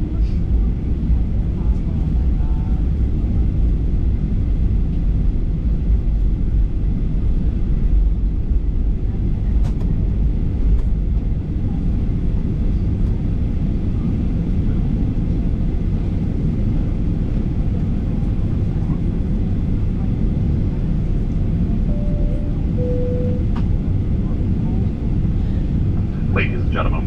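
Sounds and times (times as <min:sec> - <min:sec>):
airplane cabin rumble while taxiing: 0:00.0 - 0:27.0.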